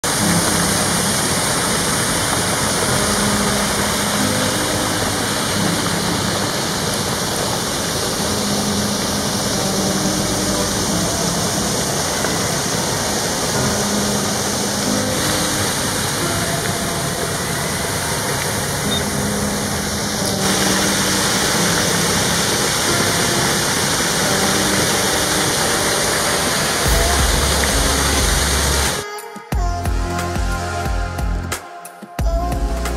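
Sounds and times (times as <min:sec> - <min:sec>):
water gushing over stone steps: 0:00.0 - 0:29.0.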